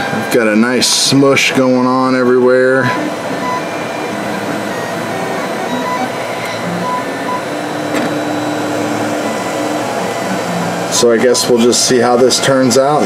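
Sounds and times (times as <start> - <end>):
fan whirring: 0.0 - 13.0
stepper motor tones: 0.0 - 13.0.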